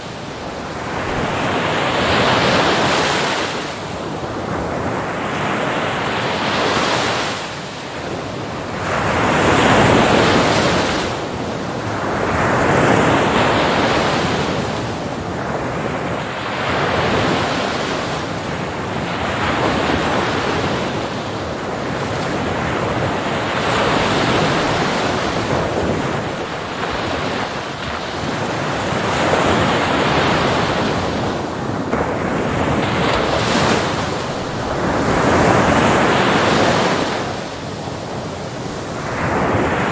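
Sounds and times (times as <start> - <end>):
ocean waves breaking: 0.0 - 39.9
wind on microphone: 0.0 - 39.9.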